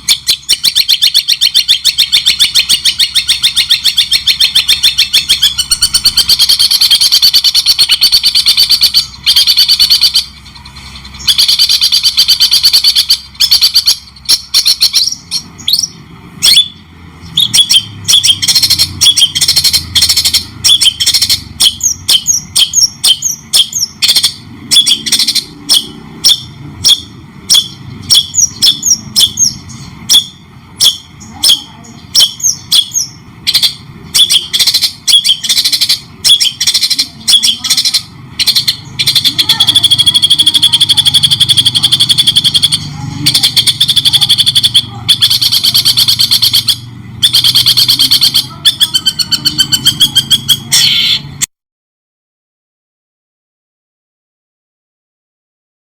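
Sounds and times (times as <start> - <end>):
bird sharp repeated notes: 0.0 - 51.5.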